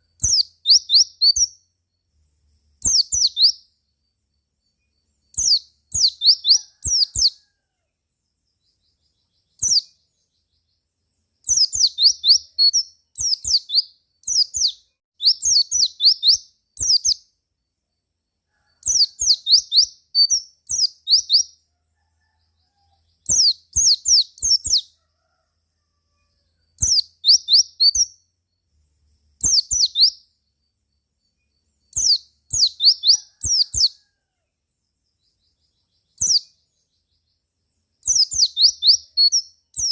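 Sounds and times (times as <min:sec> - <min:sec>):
bird chirping: 0:00.0 - 0:25.4, 0:26.1 - 0:39.9.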